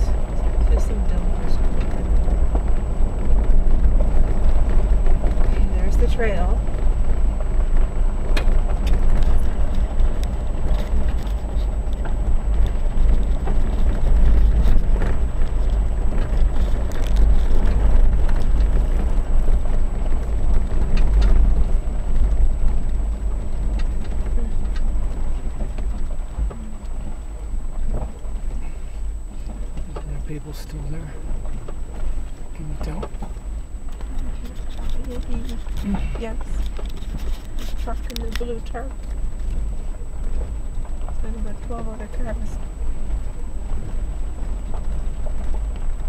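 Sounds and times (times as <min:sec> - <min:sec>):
gravel ticking under tyres: 0:00.0 - 0:46.0
low road rumble: 0:00.0 - 0:46.0.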